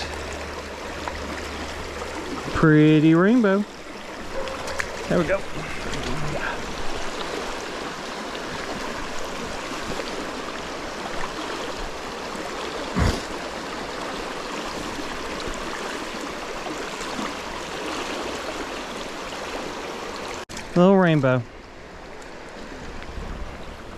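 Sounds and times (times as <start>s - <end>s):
mountain stream flowing: 0.0s - 23.9s.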